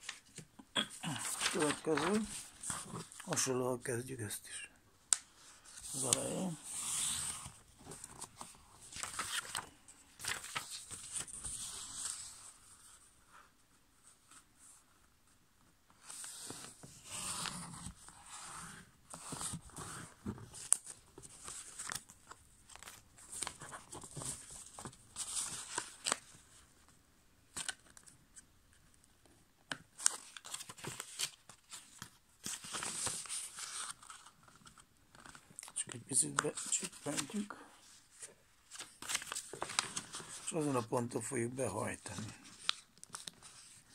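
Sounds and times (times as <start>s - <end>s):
paper rustling while folded: 0.0s - 3.6s, 5.3s - 13.1s, 16.0s - 26.9s, 29.9s - 43.9s.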